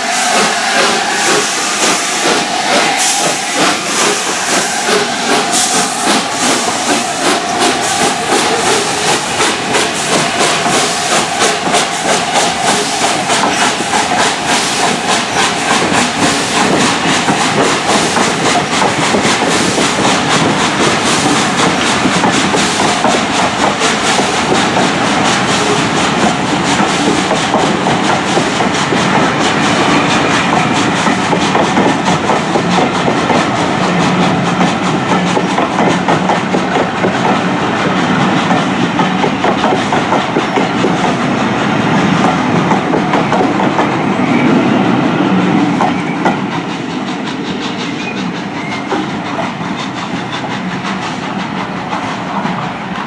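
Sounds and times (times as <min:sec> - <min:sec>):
train wheels clickety-clack: 0:00.0 - 0:53.0.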